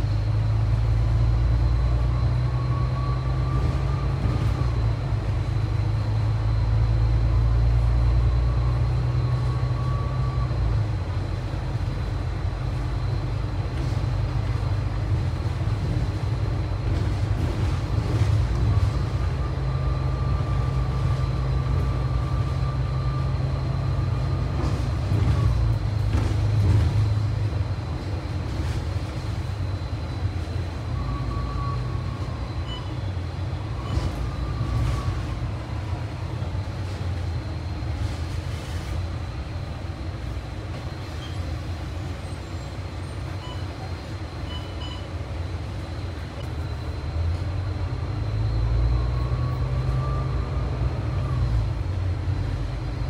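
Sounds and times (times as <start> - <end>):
bus engine and road rumble: 0.0 - 53.0.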